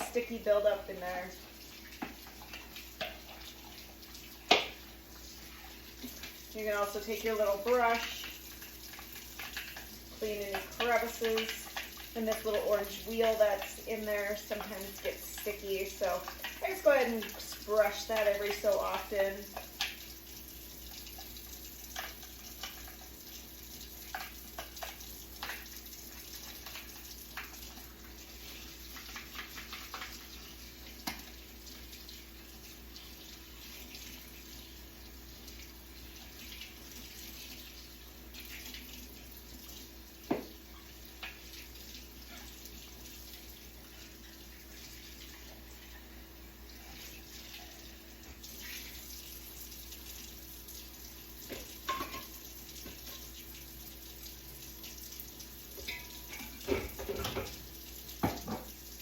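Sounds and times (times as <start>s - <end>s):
water running from a tap: 0.0s - 59.0s.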